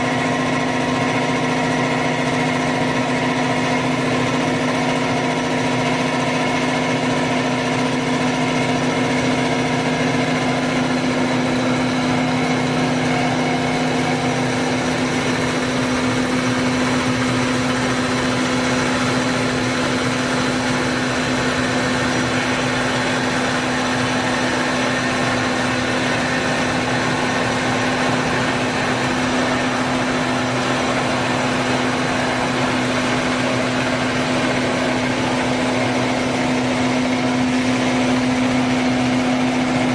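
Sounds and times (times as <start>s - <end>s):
constant whining tones: 0.0s - 39.9s
drilling machine humming: 0.0s - 39.9s
lower drone: 0.0s - 39.9s.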